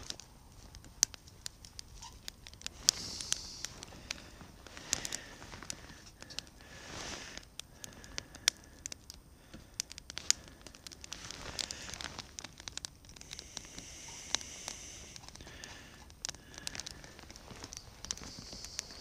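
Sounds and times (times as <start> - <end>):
soft rustles: 0.0 - 8.1, 10.2 - 19.0
wood fire crackling and popping: 0.0 - 19.0.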